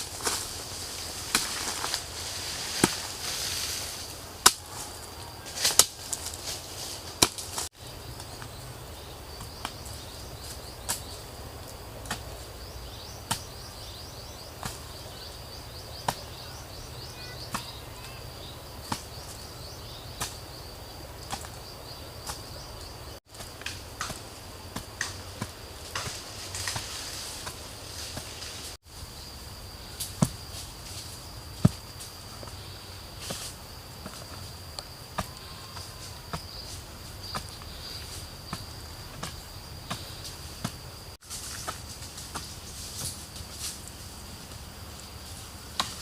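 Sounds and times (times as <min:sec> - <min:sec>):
insects trilling: 0:00.0 - 0:46.0.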